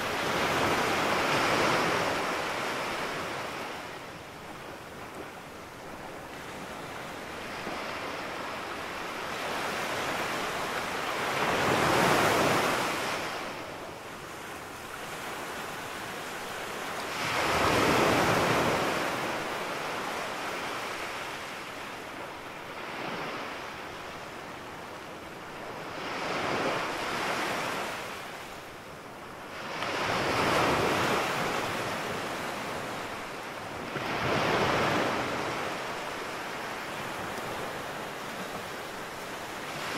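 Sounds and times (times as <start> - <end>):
small waves breaking on a beach: 0.0 - 39.9.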